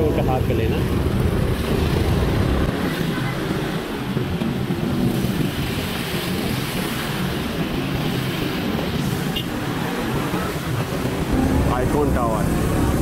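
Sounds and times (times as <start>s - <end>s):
slow traffic noise: 0.0s - 13.0s.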